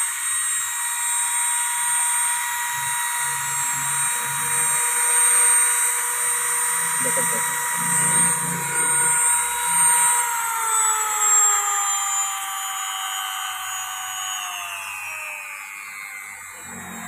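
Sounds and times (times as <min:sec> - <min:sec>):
grinder motor whining: 0:00.0 - 0:17.0.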